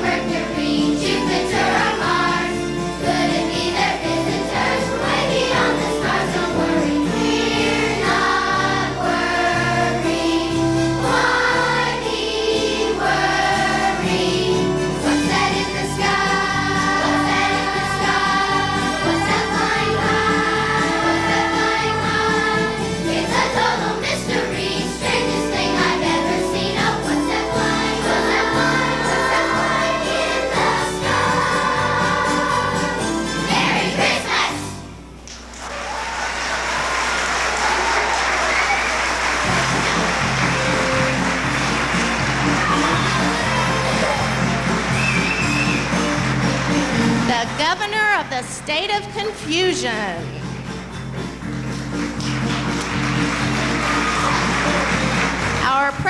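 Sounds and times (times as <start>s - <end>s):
children's choir singing: 0.0s - 35.0s, 35.9s - 51.3s, 52.0s - 56.0s
instrumental accompaniment: 0.0s - 35.2s, 39.2s - 56.0s.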